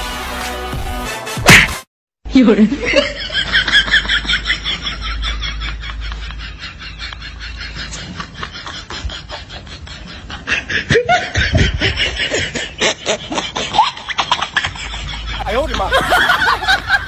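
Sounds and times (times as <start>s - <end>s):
snickering laughter: 2.8s - 17.0s.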